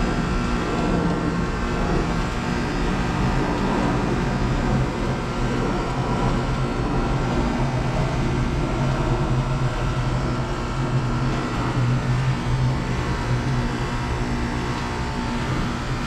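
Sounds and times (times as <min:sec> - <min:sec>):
heat pump outdoor unit humming: 0:00.0 - 0:16.0.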